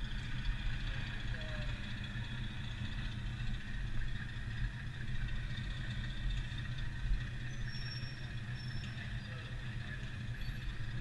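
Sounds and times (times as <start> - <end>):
electric go-kart hum: 0.0 - 11.0
rumble from track surface: 0.0 - 11.0.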